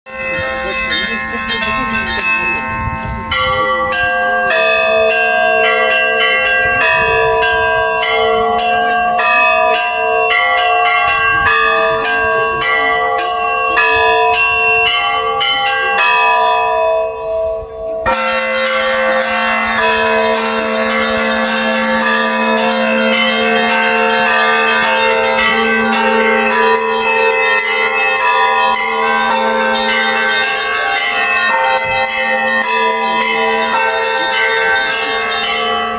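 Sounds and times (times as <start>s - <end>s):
church bells ringing a peal: 0.1s - 35.9s.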